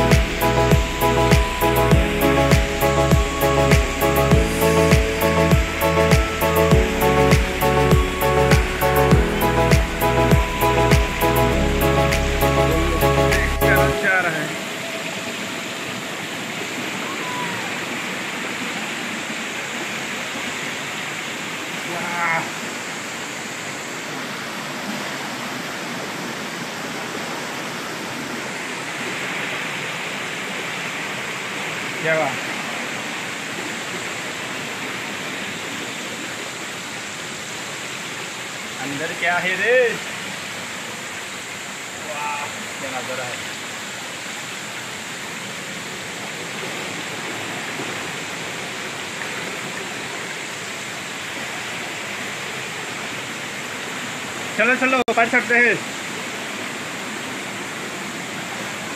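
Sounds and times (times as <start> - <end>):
stream rushing over boulders: 0.0 - 58.9.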